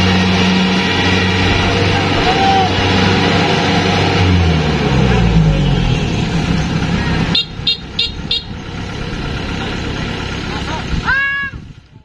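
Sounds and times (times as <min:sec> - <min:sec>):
combine harvester diesel engine: 0:00.0 - 0:12.0.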